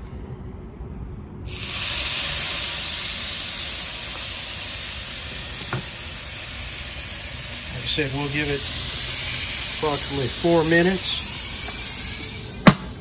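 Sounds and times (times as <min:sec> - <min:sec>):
meat sizzling on grill: 0:01.5 - 0:13.0.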